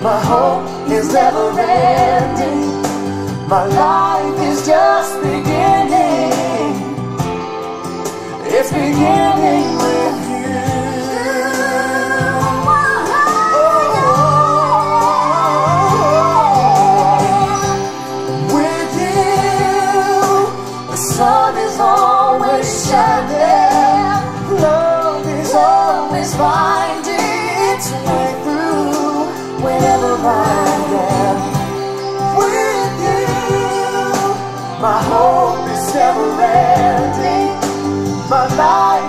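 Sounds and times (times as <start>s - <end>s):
slow song through loudspeakers: 0.0s - 39.0s.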